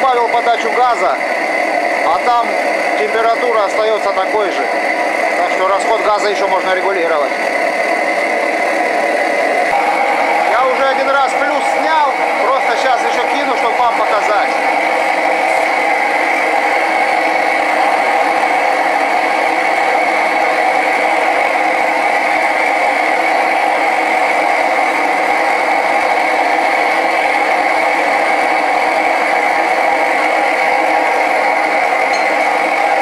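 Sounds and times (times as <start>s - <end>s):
gas burner flame rushing: 0.0s - 33.0s.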